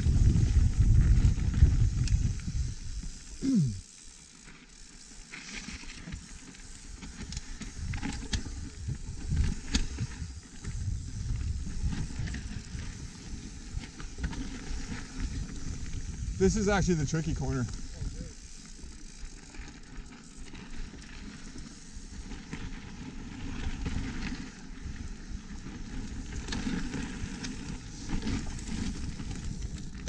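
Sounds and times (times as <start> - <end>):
wind and tyres rumbling: 0.0 - 30.0
bike clicks and rattles: 0.1 - 30.0.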